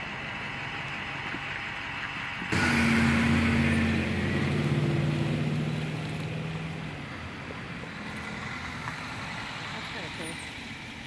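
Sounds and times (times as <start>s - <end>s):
large vehicle engine humming: 0.0s - 11.0s.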